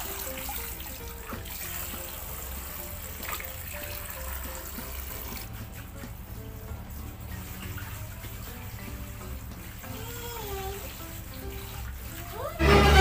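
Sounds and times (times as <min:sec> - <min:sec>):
water splashing into pool: 0:00.0 - 0:13.0
water spraying from hose nozzle: 0:00.0 - 0:13.0.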